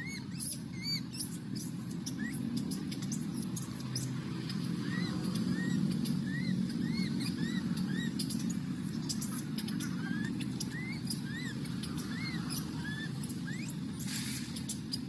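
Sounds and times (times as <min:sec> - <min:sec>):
baby monkey squealing: 0:00.0 - 0:15.0
steady low rumble: 0:00.0 - 0:15.0.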